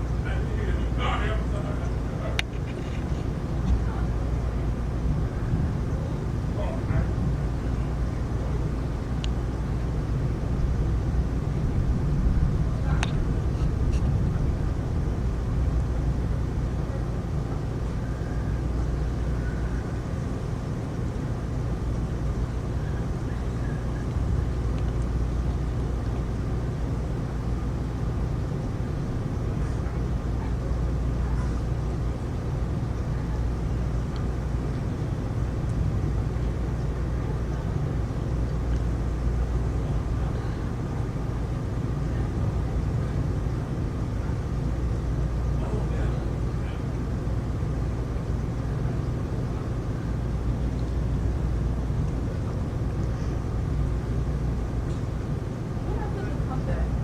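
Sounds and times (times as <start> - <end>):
deep low rumble: 0.0 - 57.0
heavy rain: 0.0 - 57.0.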